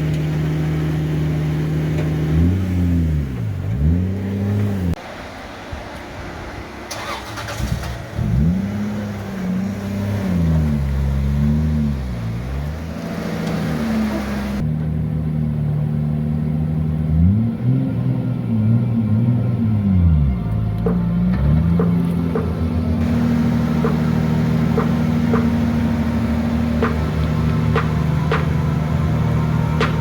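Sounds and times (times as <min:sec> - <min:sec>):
car engine revving: 0:00.0 - 0:05.1, 0:06.9 - 0:30.0.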